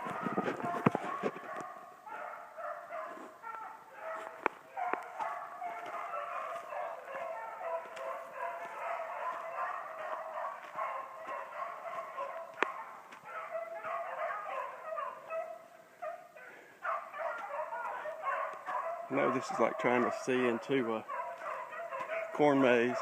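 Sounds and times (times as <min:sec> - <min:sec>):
pack of hounds baying: 0:00.0 - 0:23.0.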